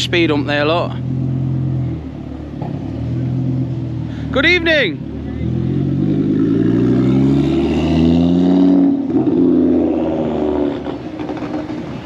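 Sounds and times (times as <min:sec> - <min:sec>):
car engine accelerating away: 0:00.1 - 0:12.0.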